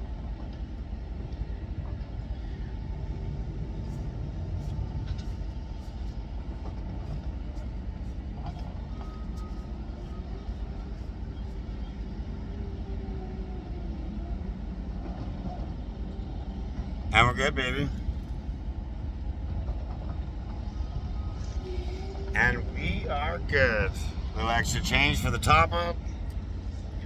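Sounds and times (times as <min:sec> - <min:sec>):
low engine-like rumble: 0:00.0 - 0:27.0.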